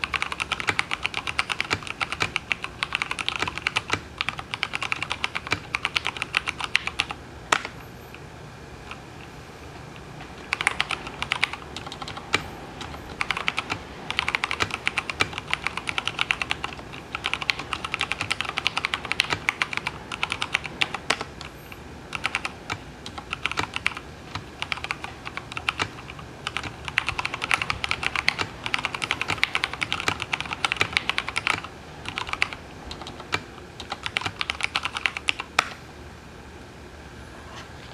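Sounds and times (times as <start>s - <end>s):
mechanical keyboard typing: 0.0s - 7.8s, 10.4s - 21.5s, 22.1s - 35.8s.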